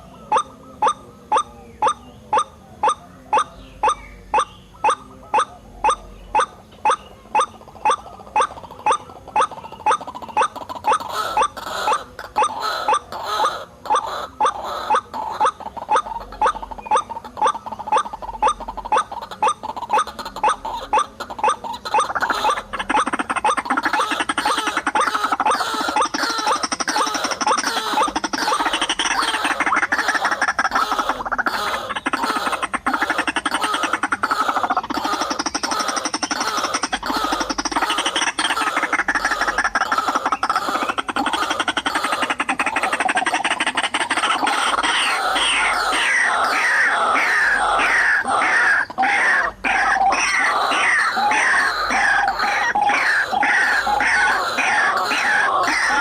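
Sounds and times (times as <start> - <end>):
waterhen croaking calls: 0.0 - 56.0.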